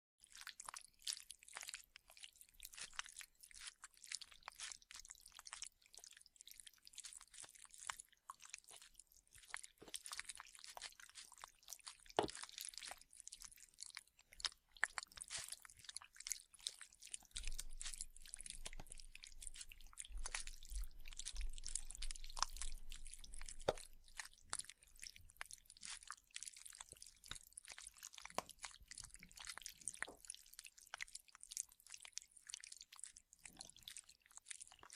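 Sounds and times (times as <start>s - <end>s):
wet chewing and squelching: 0.2s - 34.9s.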